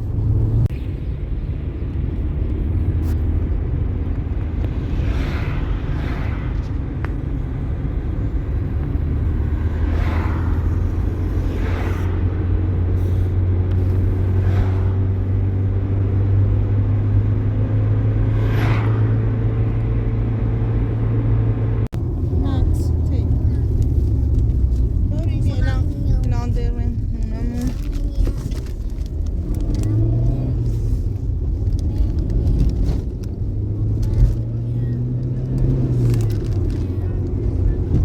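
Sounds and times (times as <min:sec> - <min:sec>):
vehicle engine droning: 0:00.0 - 0:38.0.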